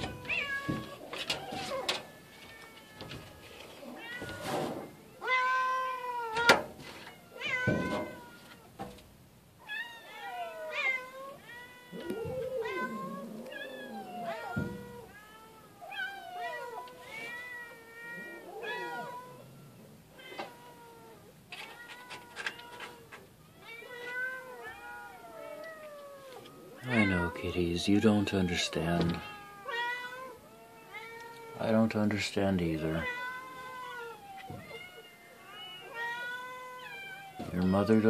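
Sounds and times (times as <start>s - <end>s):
cat and kittens meowing: 0.0s - 8.9s, 9.6s - 38.0s.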